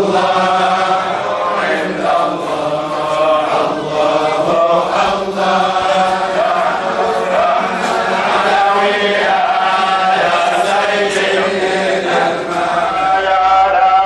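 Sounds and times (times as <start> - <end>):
voices singing devotional chant: 0.0 - 14.0.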